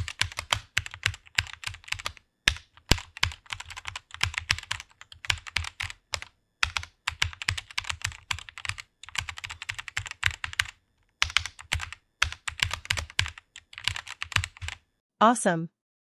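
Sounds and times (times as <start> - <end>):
fast typing on keyboard: 0.0 - 14.8.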